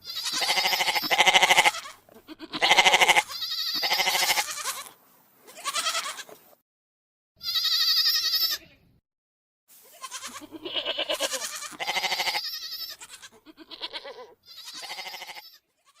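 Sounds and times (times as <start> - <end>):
goats bleating: 0.0 - 6.4, 7.4 - 8.7, 9.8 - 16.0.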